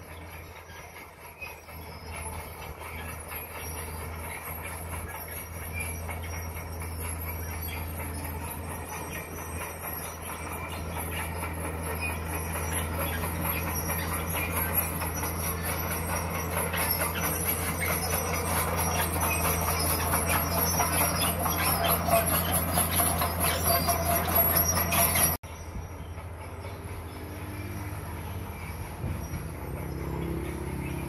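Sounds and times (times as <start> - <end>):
bulldozer diesel engine running: 0.0 - 31.0
steel tracks clanking and squealing: 0.0 - 31.0.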